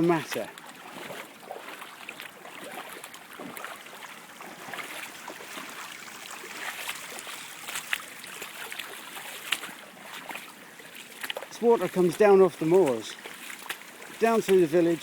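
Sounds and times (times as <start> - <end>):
floodwater running and trickling: 0.0 - 15.0
small water splashes: 0.0 - 15.0.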